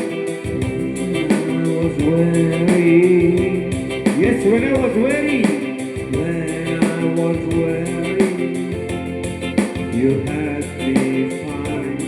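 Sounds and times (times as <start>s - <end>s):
guitar accompaniment: 0.0s - 12.0s
person singing gospel song: 0.0s - 12.0s.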